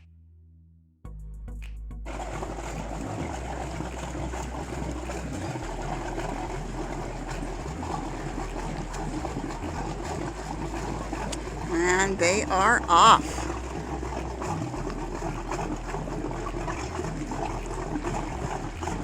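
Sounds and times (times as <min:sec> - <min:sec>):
motorboat engines running: 0:02.1 - 0:19.0.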